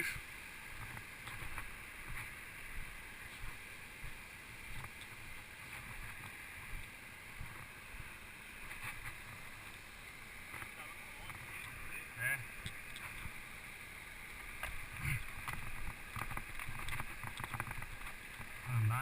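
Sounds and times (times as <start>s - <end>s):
footsteps on a trail: 0.0s - 11.9s, 14.4s - 18.6s
steady rushing hiss: 0.0s - 19.0s.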